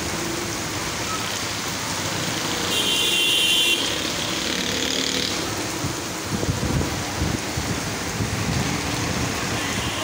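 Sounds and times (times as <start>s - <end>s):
heavy rain hissing on street: 0.0s - 10.0s.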